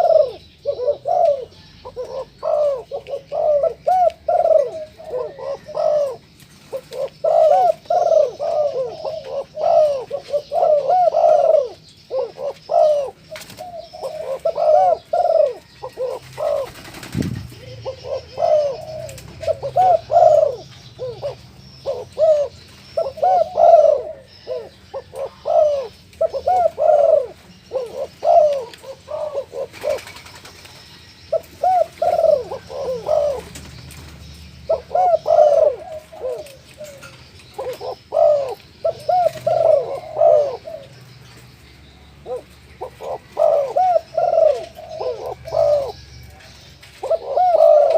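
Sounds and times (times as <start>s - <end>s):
dove cooing: 0.0s - 47.9s.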